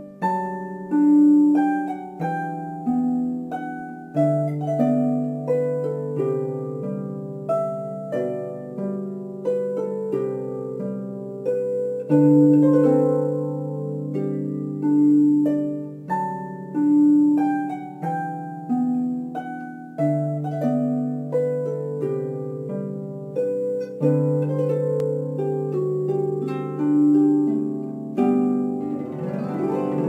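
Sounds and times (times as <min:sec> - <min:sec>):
solo harp music: 0:00.0 - 0:30.0.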